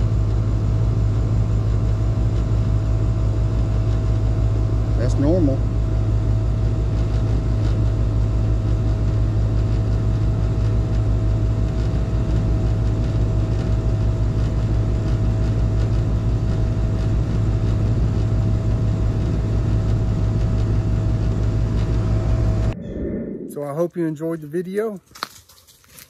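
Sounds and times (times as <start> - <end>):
compressor humming: 0.0 - 24.8.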